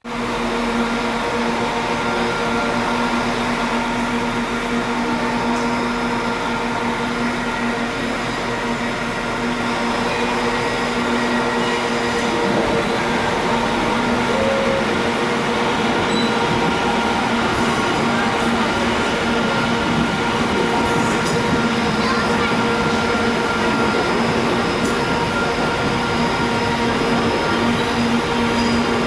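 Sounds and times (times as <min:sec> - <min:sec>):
electric train pulling in: 0:00.0 - 0:29.0.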